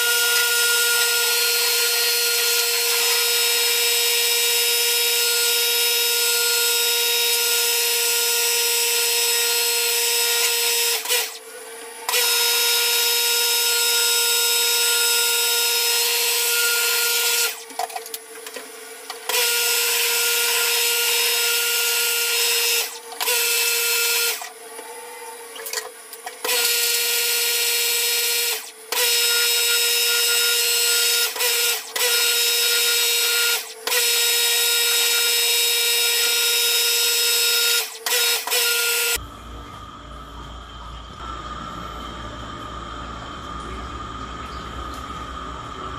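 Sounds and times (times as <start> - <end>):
pressure washer motor whine: 0.0 - 45.9.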